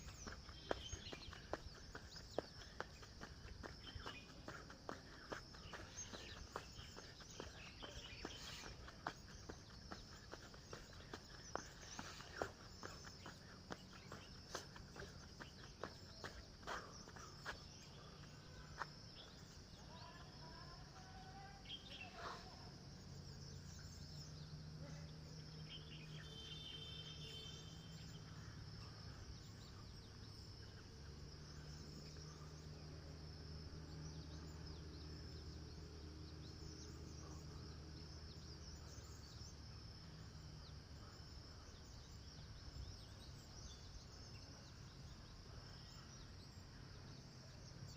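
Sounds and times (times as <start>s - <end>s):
insects chirping: 0.0s - 47.9s.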